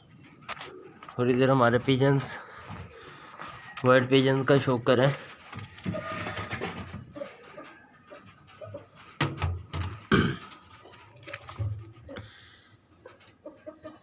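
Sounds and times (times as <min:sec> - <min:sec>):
pigeons cooing: 0:00.0 - 0:01.2, 0:01.8 - 0:03.7, 0:05.3 - 0:14.0.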